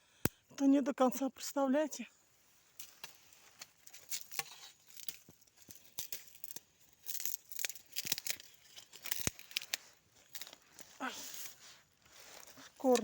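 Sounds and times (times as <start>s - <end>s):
dry stalks rustling and crackling: 2.2s - 13.0s.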